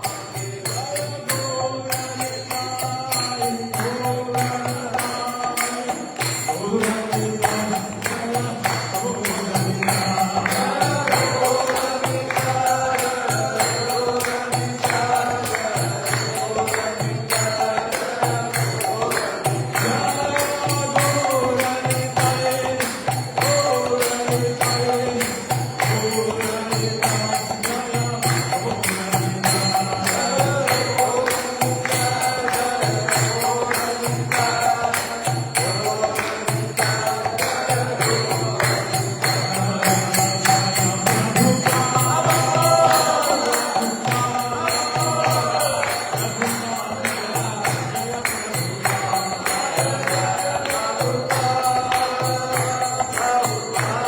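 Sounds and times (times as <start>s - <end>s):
jingling percussion: 0.0s - 54.0s.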